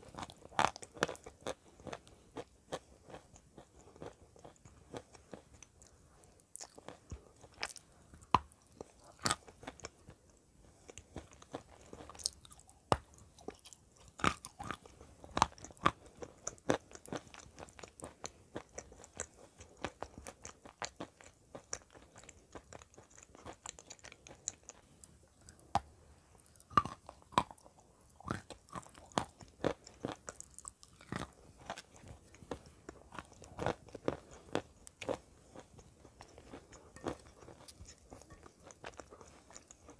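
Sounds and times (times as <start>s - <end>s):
clay crunching when chewed: 0.0s - 39.9s.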